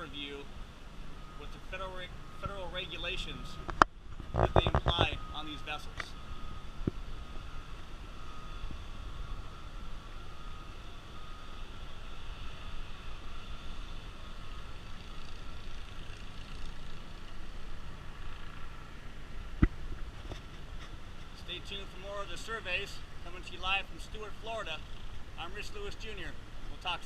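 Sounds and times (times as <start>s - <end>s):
mechanical hum with whine: 0.0s - 27.0s.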